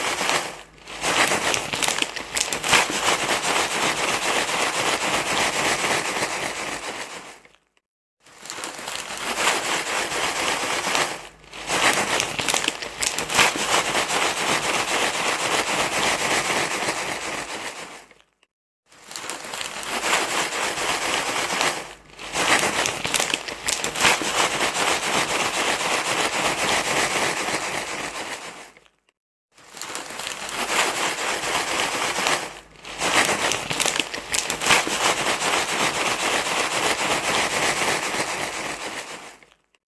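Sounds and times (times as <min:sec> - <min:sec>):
crinkly rustling: 0:00.0 - 0:39.8.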